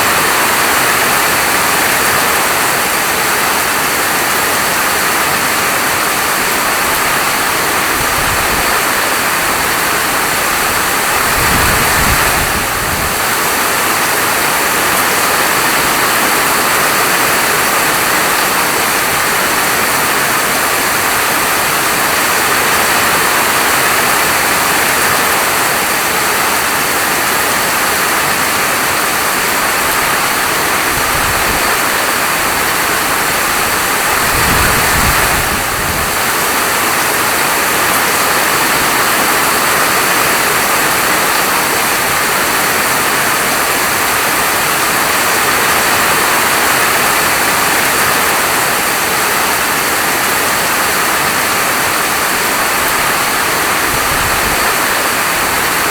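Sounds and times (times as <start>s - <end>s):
heavy rainfall: 0.0s - 55.9s.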